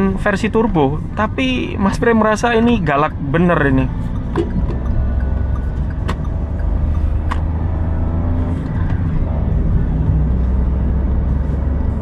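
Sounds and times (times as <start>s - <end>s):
car engine drone: 0.0s - 12.0s
road noise: 0.0s - 12.0s.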